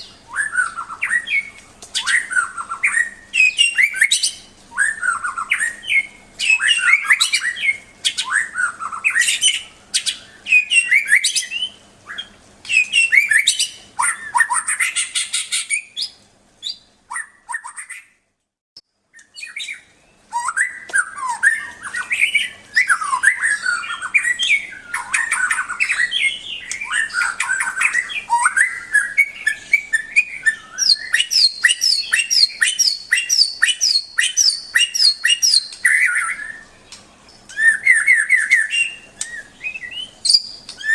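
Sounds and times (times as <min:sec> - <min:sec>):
songbird singing: 0:00.0 - 0:18.2, 0:18.8 - 0:40.9.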